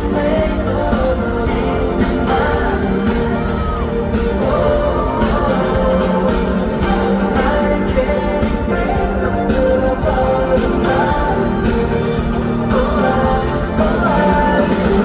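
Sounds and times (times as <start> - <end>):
pop song over sound system: 0.0 - 15.0.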